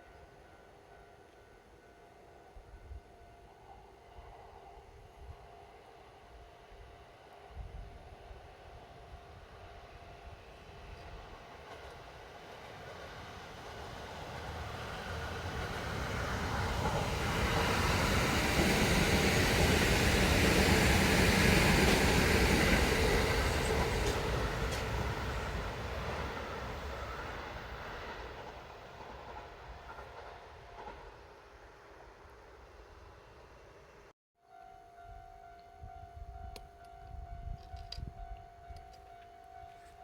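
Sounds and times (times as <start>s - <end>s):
electric train passing: 0.0s - 39.9s.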